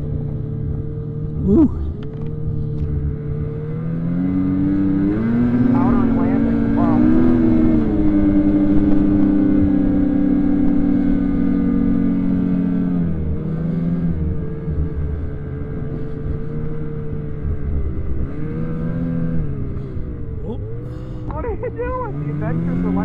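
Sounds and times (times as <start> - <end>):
snowmobile engine revving: 0.1 - 23.0.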